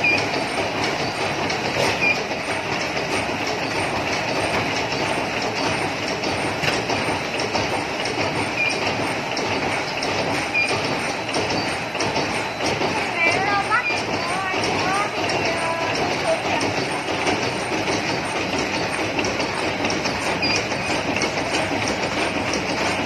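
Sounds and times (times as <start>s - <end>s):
machine clattering: 0.0s - 23.0s.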